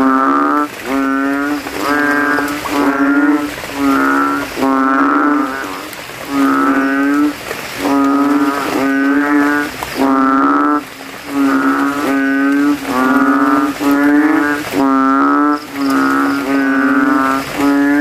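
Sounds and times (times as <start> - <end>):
frog calling: 0.0 - 18.0.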